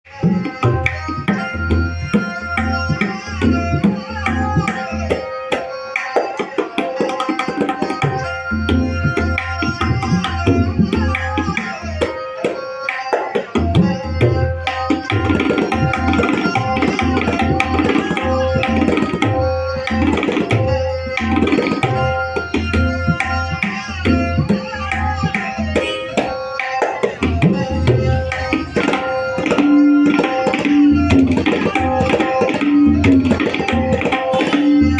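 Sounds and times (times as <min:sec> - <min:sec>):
ringing tabla drum: 0:00.0 - 0:34.9.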